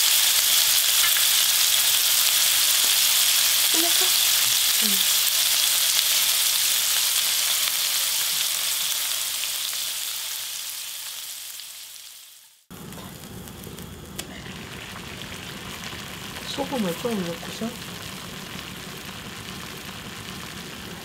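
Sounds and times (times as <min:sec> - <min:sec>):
meat sizzling in oil: 0:00.0 - 0:21.0
pot of water heating hiss: 0:00.0 - 0:21.0.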